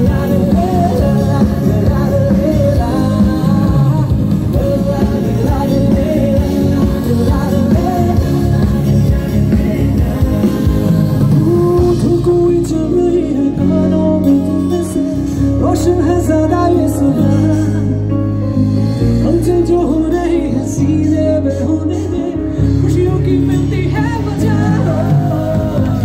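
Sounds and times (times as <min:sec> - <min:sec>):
bass line: 0:00.0 - 0:26.0
live band playing amplified music: 0:00.0 - 0:26.0
man singing: 0:00.0 - 0:26.0.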